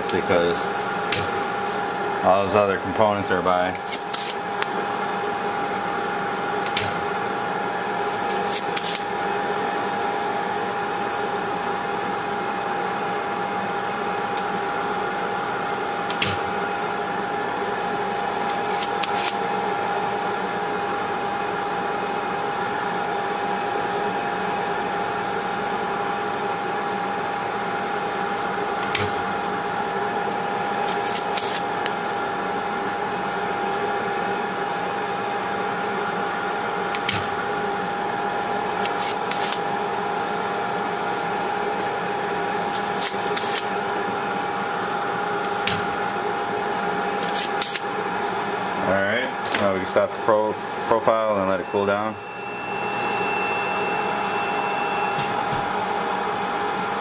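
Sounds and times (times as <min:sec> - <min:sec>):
hot-air blower whine: 0:00.0 - 0:57.0.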